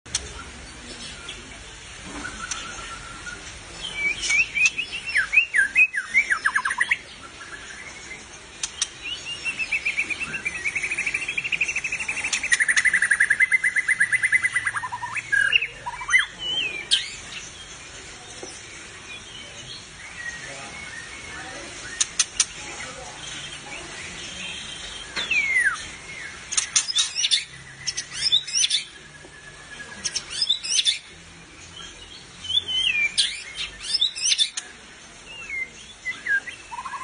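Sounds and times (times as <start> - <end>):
bird singing trills: 0.1 - 37.0.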